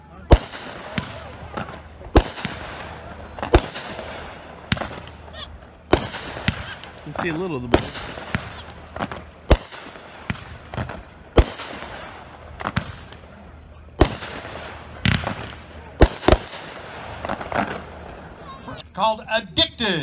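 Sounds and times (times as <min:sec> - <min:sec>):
firework bangs: 0:00.0 - 0:18.9
faint firework hiss: 0:00.0 - 0:20.0.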